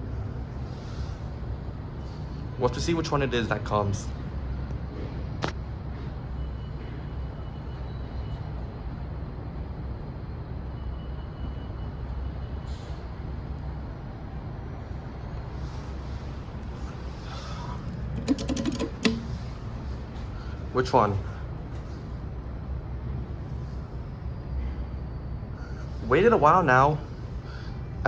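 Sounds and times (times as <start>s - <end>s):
low rumble of city traffic: 0.0s - 28.0s.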